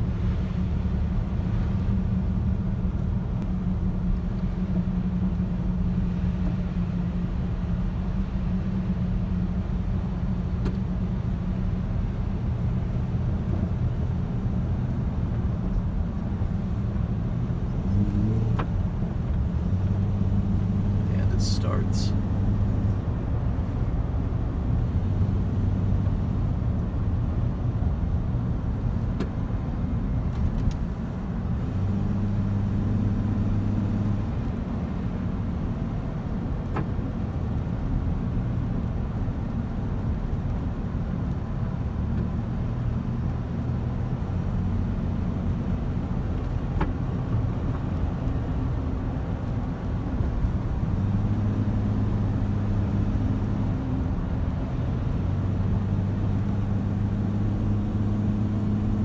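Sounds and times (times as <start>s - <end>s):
truck engine and tyre drone: 0.0s - 59.0s.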